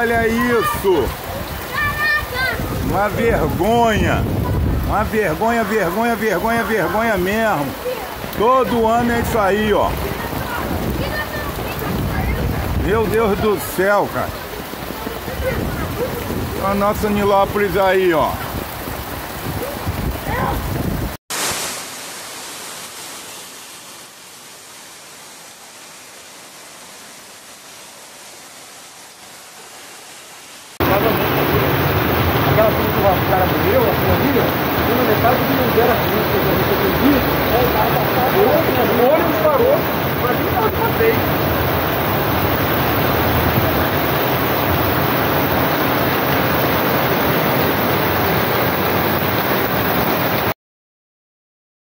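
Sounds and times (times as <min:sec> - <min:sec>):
floodwater rushing down street: 0:00.0 - 0:50.6
heavy rain: 0:00.0 - 0:50.6.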